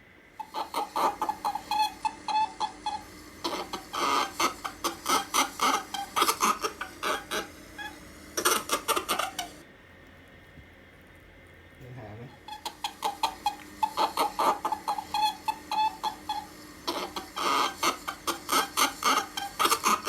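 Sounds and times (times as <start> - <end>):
rabbit making short rapid calls: 0.4 - 9.6, 11.9 - 20.0.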